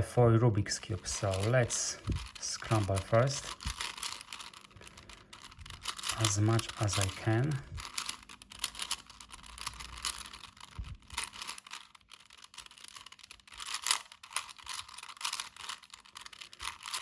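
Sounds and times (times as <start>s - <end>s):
puzzle cube clicking and clacking: 0.7s - 17.0s.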